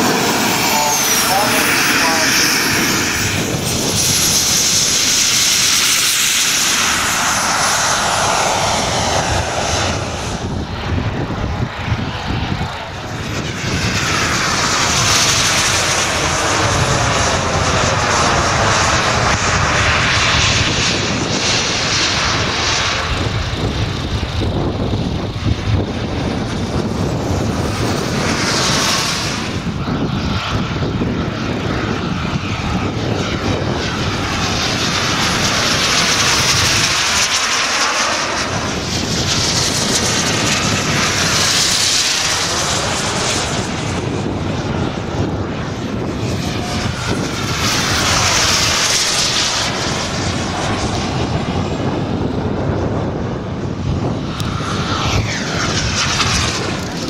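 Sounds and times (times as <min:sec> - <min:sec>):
model aircraft engine passing: 0:00.0 - 0:57.0.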